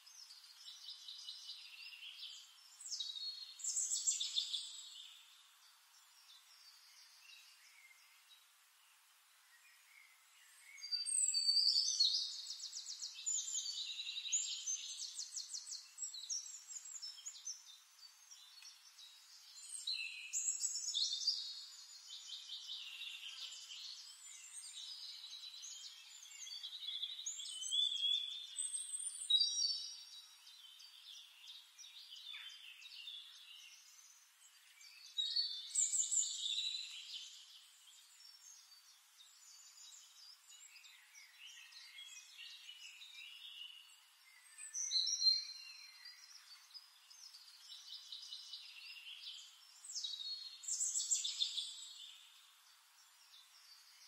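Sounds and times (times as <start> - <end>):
songbird trills and whistles: 0.1 - 5.3, 9.6 - 54.0.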